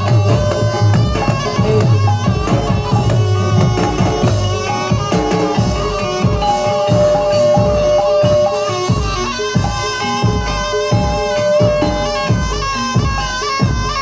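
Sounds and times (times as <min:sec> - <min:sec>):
drums beating busy rhythm: 0:00.0 - 0:14.0
melodic instruments: 0:00.0 - 0:14.0.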